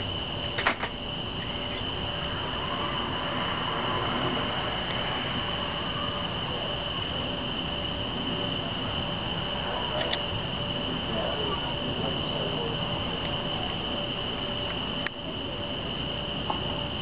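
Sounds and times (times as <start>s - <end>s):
insects chirping: 0.0s - 17.0s
low noisy rumble: 0.0s - 17.0s
pulsing insect call: 0.0s - 17.0s.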